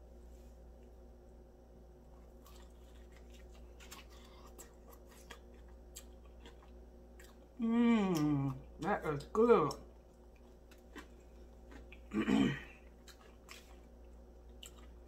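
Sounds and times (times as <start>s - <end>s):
low steady hum: 0.0s - 15.0s
crunchy chewing and mouth clicks: 2.1s - 15.0s.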